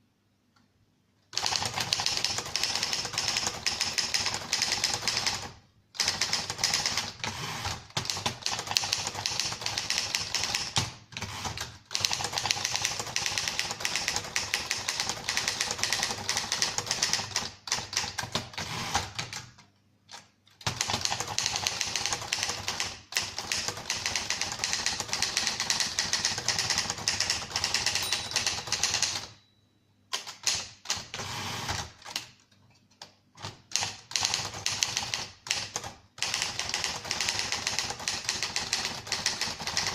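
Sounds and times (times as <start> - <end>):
manual typewriter keystrokes: 1.3 - 29.4, 30.1 - 39.9.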